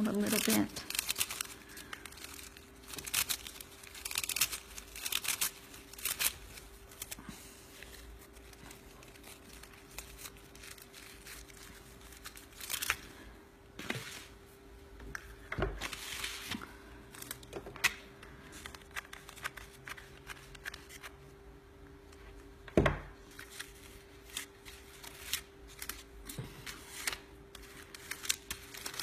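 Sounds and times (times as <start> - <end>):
paper rustling and crinkling: 0.0 - 14.6, 15.3 - 21.2, 23.2 - 29.0
faint steady hum: 0.0 - 29.0.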